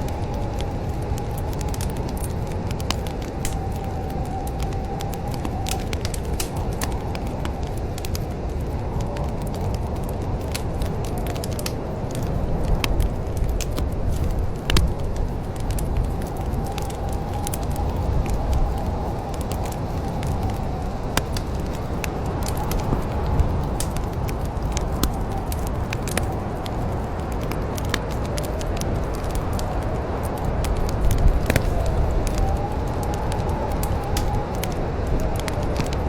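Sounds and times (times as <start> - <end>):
low rumble of flames: 0.0 - 36.0
sharp pops and snaps: 0.0 - 36.0
wood fire crackling: 0.0 - 36.0.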